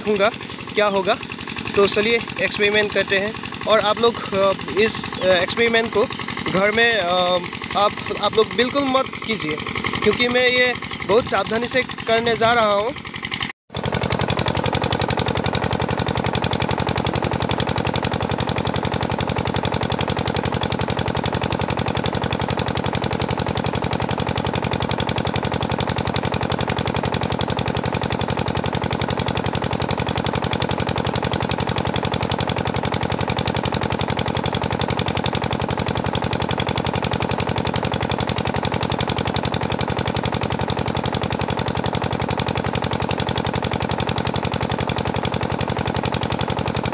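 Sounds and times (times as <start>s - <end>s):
water pump engine running: 0.0s - 46.9s.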